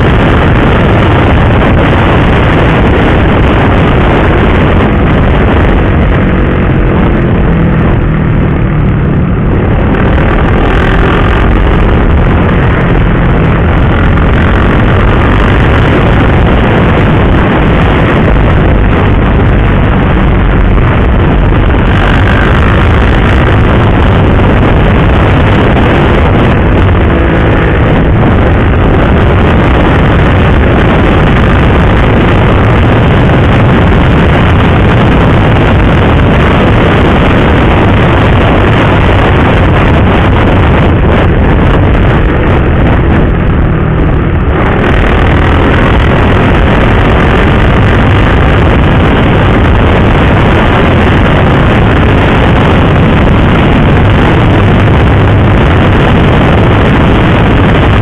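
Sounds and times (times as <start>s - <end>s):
motorcycle engine drone: 0.0s - 58.0s
wind rush on microphone: 0.0s - 58.0s.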